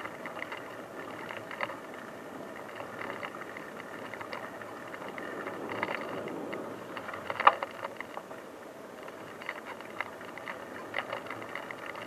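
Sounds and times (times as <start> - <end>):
bicycle rattles and clicks: 0.0 - 12.0
bicycle tyres on dirt: 0.0 - 12.0.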